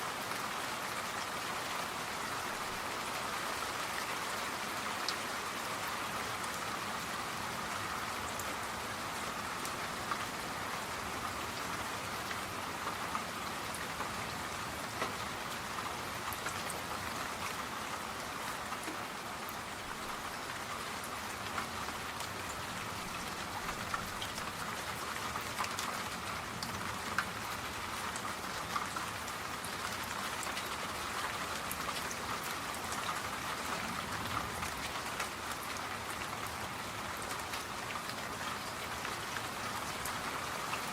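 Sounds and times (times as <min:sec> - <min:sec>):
rain hissing on a surface: 0:00.0 - 0:40.9.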